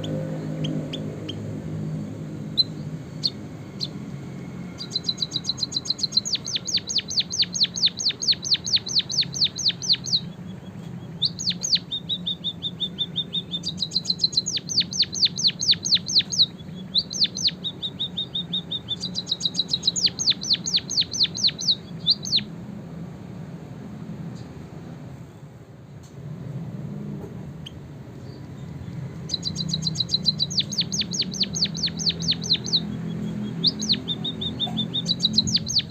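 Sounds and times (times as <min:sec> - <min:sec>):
canary singing trills: 0:00.0 - 0:22.6, 0:27.6 - 0:35.9
low steady hum: 0:00.0 - 0:35.9.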